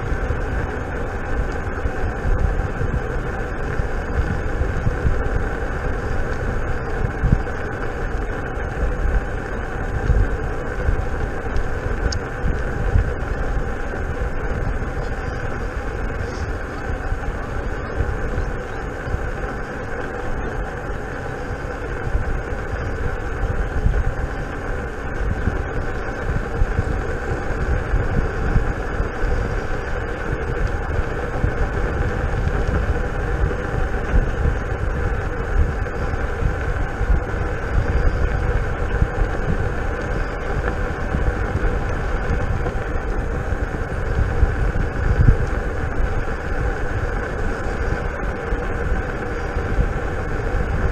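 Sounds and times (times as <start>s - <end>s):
rushing air: 0.0s - 50.9s
tyre hum on asphalt: 0.0s - 50.9s
wind rumble on microphone: 0.0s - 50.9s.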